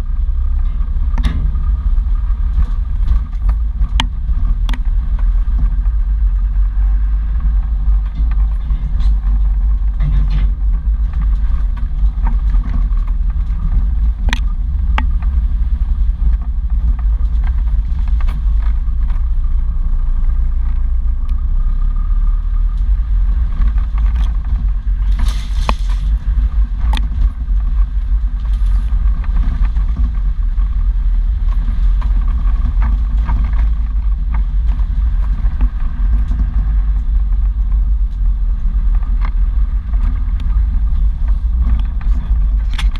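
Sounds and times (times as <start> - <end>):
vehicle engine rumble: 0.0 - 42.9
vehicle knocking over ruts: 0.0 - 42.9.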